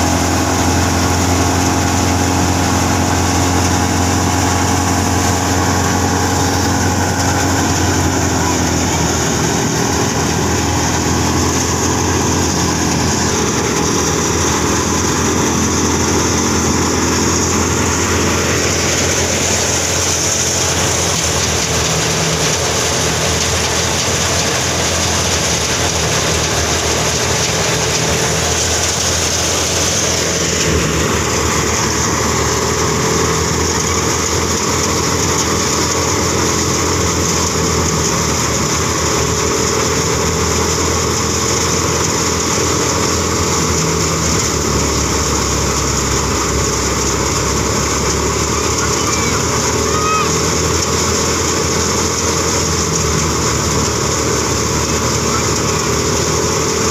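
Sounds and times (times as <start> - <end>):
thresher drum whirring: 0.0 - 56.9
tractor engine drone: 0.0 - 56.9.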